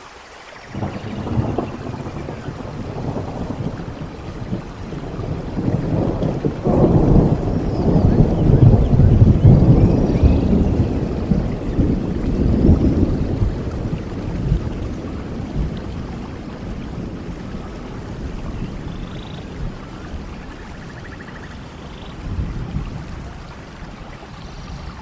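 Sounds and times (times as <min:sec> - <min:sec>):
heavy rain: 0:00.0 - 0:25.0
thunder rumble: 0:00.7 - 0:25.0.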